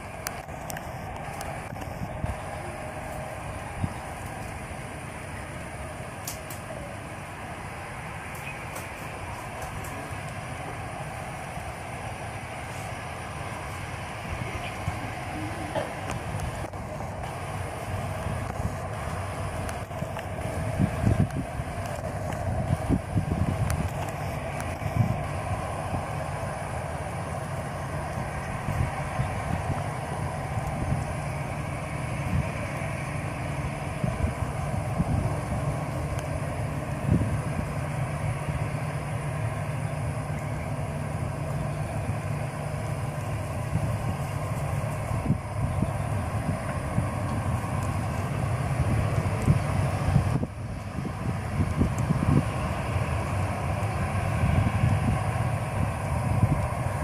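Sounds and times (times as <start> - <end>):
jet engines running at low power: 0.0 - 57.0
wind buffeting microphone: 0.0 - 57.0.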